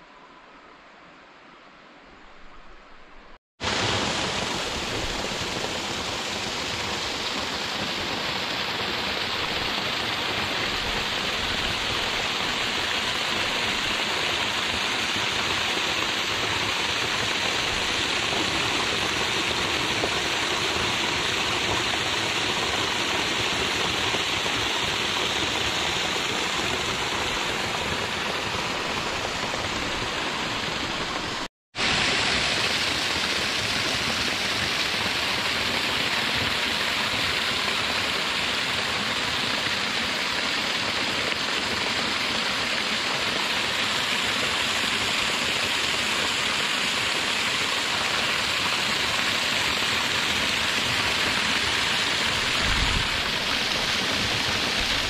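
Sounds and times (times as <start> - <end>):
waterfall rushing: 3.6 - 55.0.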